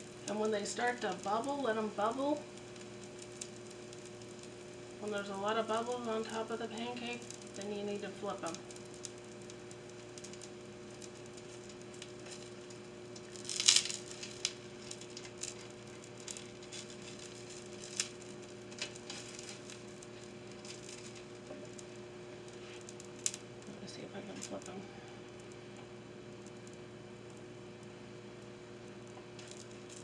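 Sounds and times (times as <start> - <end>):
pancakes cooking in skillet: 0.0 - 30.0
steady low hum: 0.0 - 30.0.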